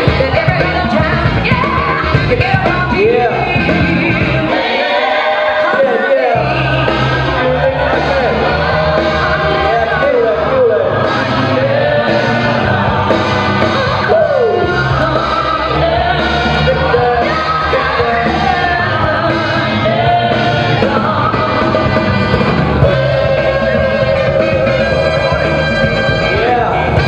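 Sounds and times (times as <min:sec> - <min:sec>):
steady bass: 0:00.0 - 0:27.0
sung vocal line: 0:00.0 - 0:27.0.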